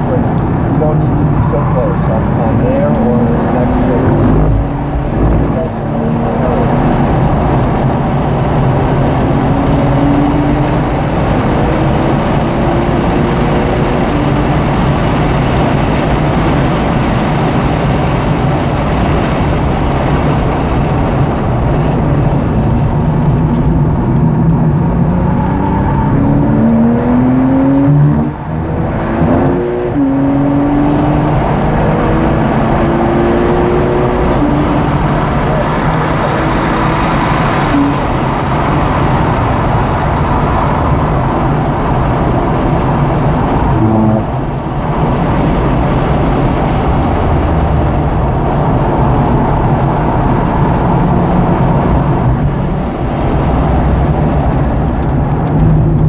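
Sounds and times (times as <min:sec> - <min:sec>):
car engine accelerating hard: 0:00.0 - 0:56.0
road and wind noise: 0:00.0 - 0:56.0.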